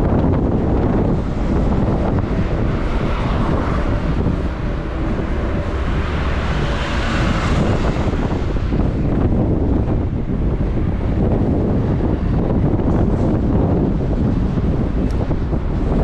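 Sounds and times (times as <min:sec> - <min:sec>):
vehicle passing: 0:00.0 - 0:16.0
wind rumble on microphone: 0:00.0 - 0:16.0.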